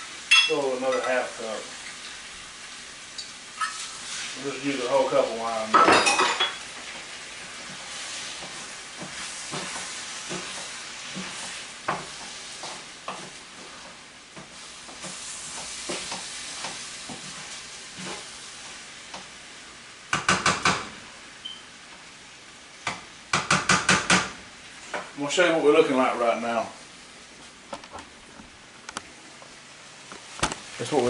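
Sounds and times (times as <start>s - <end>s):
pasta sizzling in grease: 0.0s - 27.7s, 28.6s - 31.0s.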